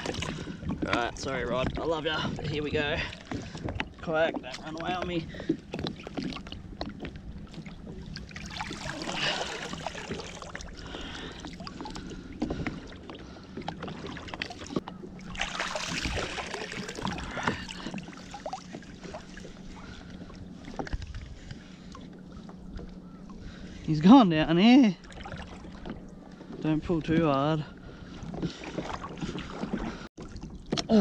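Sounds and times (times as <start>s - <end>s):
steady low hum: 0.0s - 30.4s
water sloshing and splashing: 0.0s - 31.0s.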